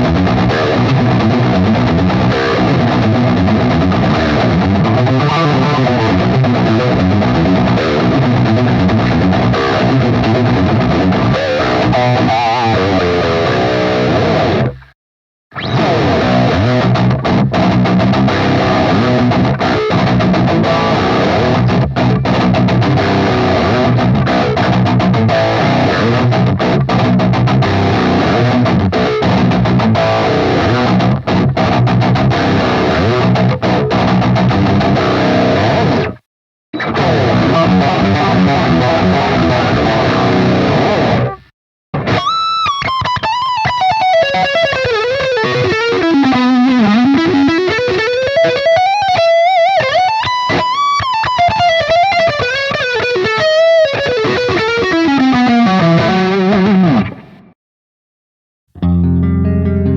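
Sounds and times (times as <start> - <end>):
distorted electric guitar riffs: 0.0 - 36.2, 36.8 - 57.6, 58.8 - 59.9.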